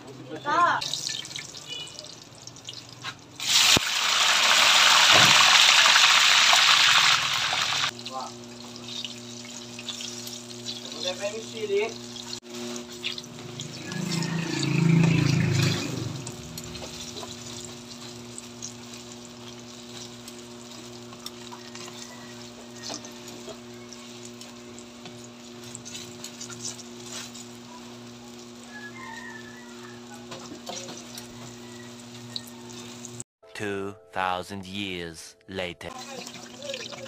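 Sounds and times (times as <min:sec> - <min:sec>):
food sizzling in hot oil: 0:00.4 - 0:33.2, 0:35.9 - 0:37.0.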